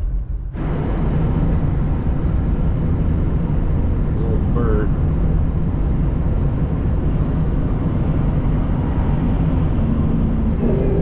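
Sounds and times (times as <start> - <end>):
road and engine drone in a car: 0.0 - 11.0.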